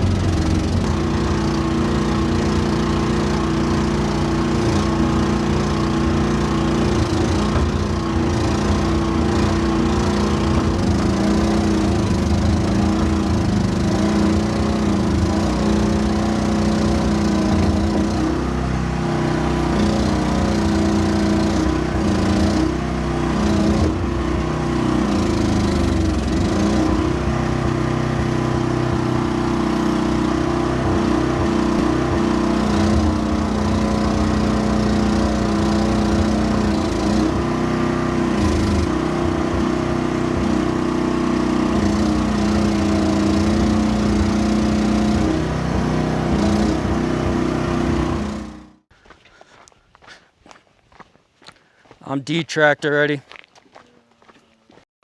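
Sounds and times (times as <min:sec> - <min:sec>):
excavator engine running: 0:00.0 - 0:49.0.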